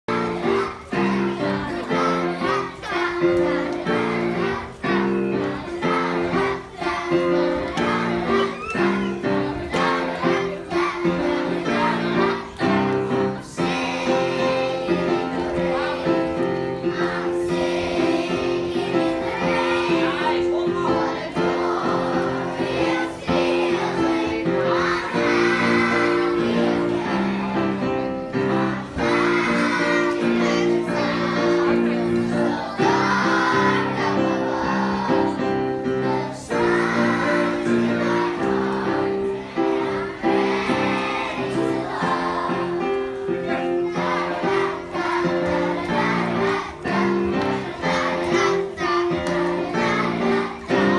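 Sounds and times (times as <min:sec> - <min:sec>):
children singing: 0:00.1 - 0:50.9
instrumental accompaniment: 0:00.1 - 0:50.9.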